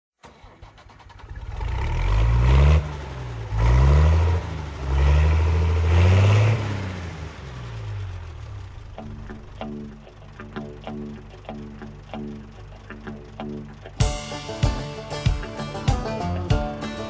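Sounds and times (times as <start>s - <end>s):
vehicle engine accelerating: 0.7s - 17.0s.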